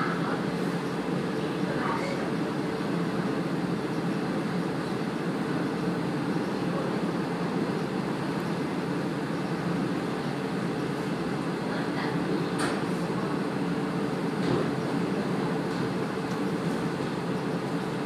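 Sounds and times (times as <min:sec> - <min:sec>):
train engine and wheels rumbling: 0:00.0 - 0:18.0.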